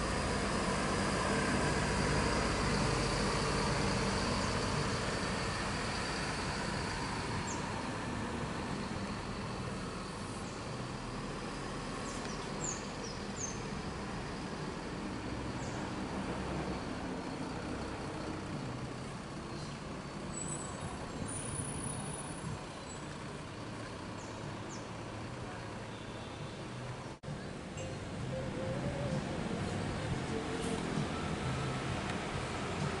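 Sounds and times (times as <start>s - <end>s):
bus diesel engine rumbling: 0.0s - 33.0s.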